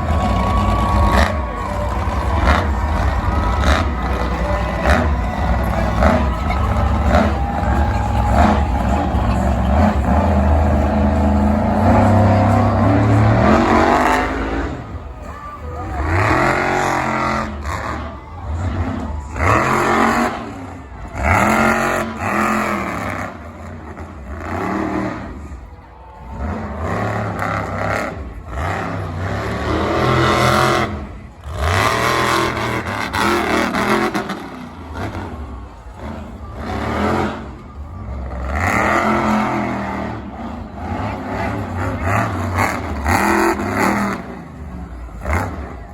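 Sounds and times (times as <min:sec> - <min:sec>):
monster truck engine revving: 0:00.0 - 0:45.9.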